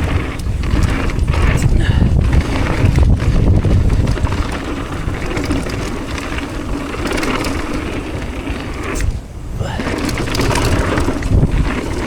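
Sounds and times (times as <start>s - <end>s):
bike clicks and rattles: 0.0s - 12.0s
bike tyre noise: 0.0s - 12.0s
wind buffeting microphone: 0.0s - 12.0s.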